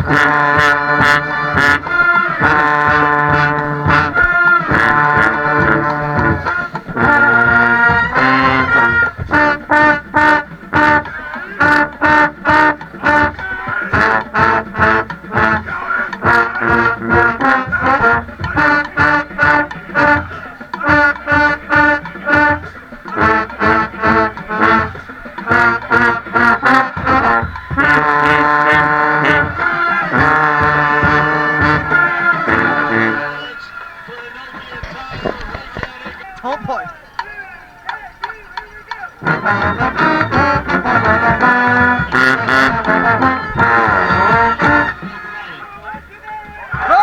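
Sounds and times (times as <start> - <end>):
marching band playing: 0.0 - 47.0.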